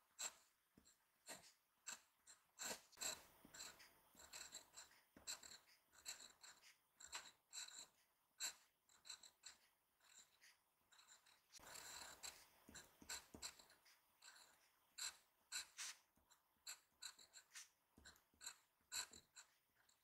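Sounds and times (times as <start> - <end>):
pen nib scratching on paper: 0.1 - 20.0.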